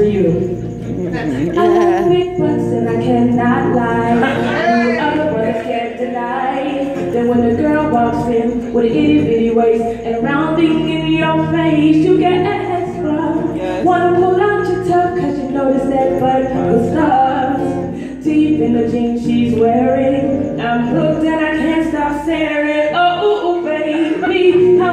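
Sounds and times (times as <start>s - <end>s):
woman singing into microphone: 0.0s - 0.8s, 1.5s - 24.9s
electric guitar: 0.0s - 21.8s.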